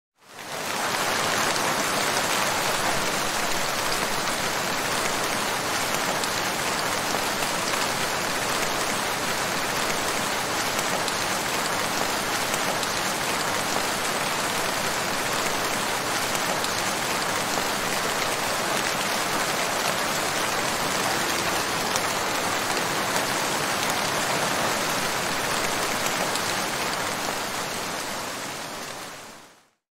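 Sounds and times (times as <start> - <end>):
heavy rain falling: 0.3 - 29.6.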